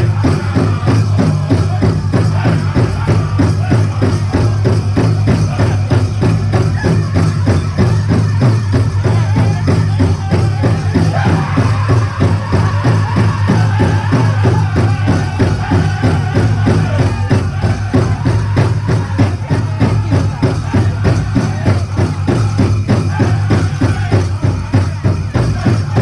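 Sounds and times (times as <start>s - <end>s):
bells jingling: 0.0s - 26.0s
big drum fast beat: 0.0s - 26.0s
people singing: 0.0s - 26.0s.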